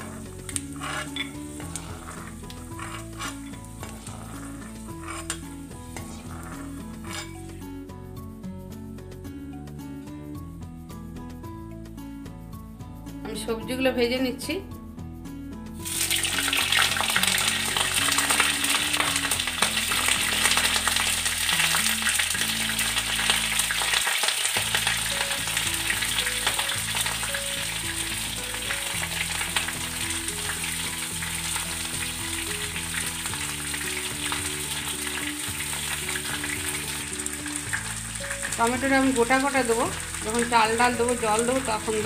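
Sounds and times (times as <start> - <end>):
vegetables sizzling in oil: 0.0 - 7.6, 15.8 - 42.0
soft background music: 0.0 - 42.0.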